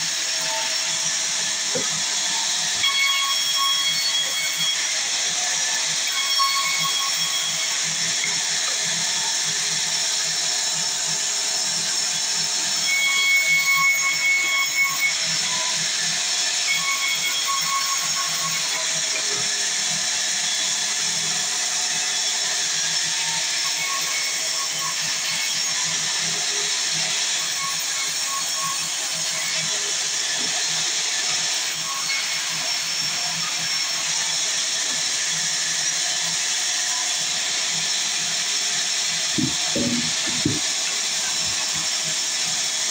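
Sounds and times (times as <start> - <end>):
sawmill saw cutting wood: 0.0 - 42.9.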